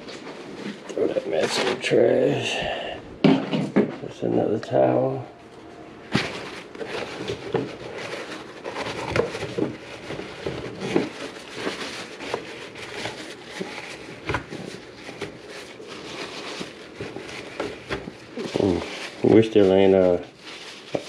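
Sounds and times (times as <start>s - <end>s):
paper towels rustling: 0.0s - 2.7s, 4.7s - 21.0s.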